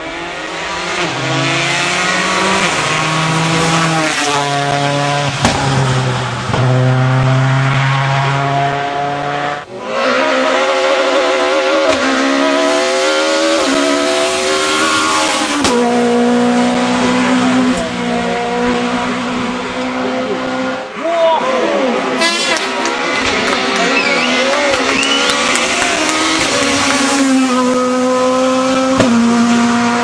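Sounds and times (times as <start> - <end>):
rally car engines at full throttle: 0.0 - 30.0.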